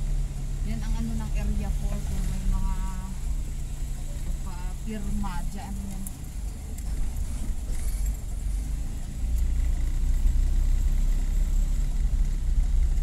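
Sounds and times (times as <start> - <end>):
car engine drone: 0.0 - 13.0
road rumble inside vehicle: 0.0 - 13.0.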